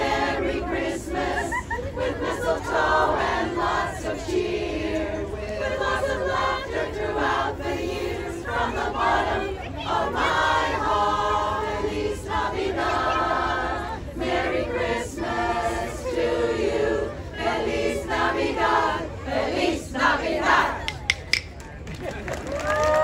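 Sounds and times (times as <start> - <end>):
women's chorus singing: 0.0 - 21.1.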